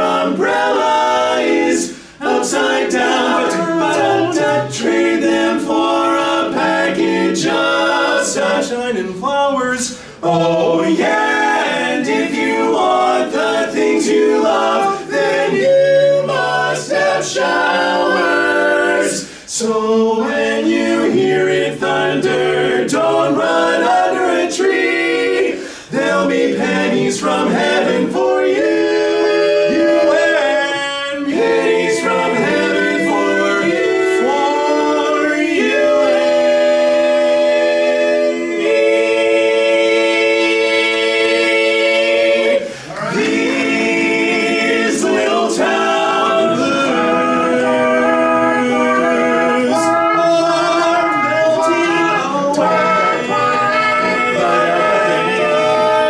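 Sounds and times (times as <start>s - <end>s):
male quartet singing a cappella: 0.0s - 56.0s.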